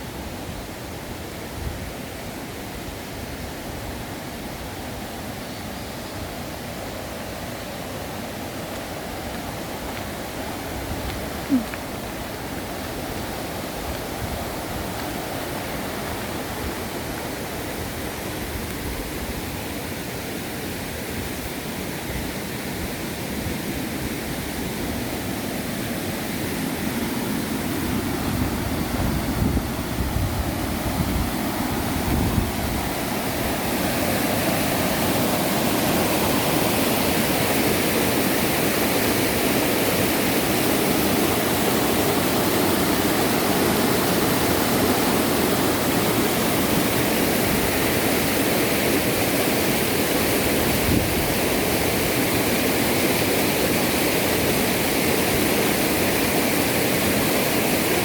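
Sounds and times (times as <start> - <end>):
water rushing: 2.0 - 58.0.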